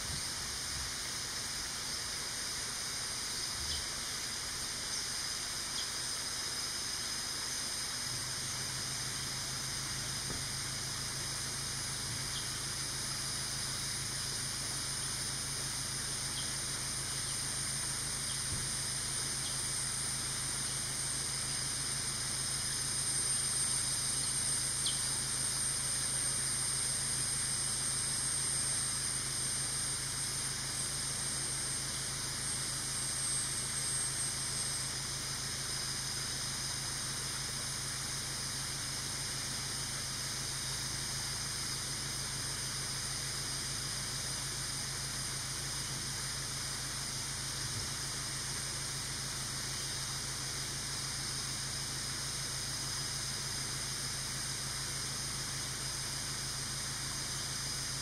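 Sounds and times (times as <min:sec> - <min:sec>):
high-pitched insect chorus: 0:00.0 - 0:58.0
low steady hum: 0:00.0 - 0:58.0.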